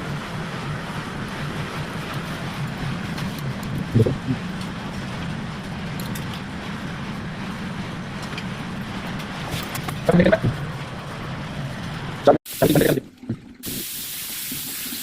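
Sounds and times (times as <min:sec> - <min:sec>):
low mechanical hum: 0:00.0 - 0:13.8
wash of noise: 0:00.0 - 0:15.0.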